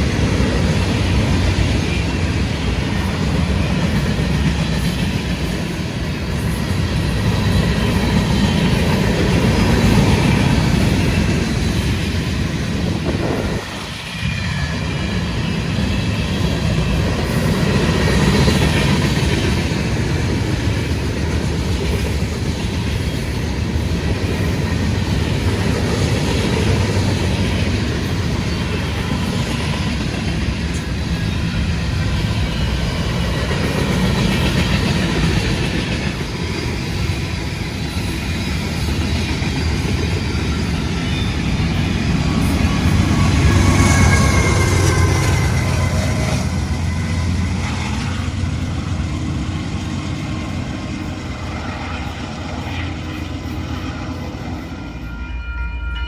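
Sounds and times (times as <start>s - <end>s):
freight train cars rolling: 0.0s - 56.0s.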